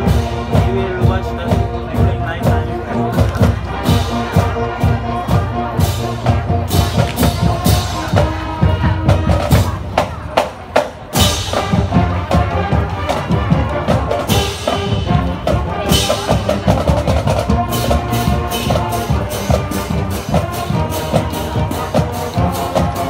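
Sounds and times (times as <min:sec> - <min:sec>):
brass band playing: 0:00.0 - 0:23.0
drumline: 0:00.0 - 0:23.0.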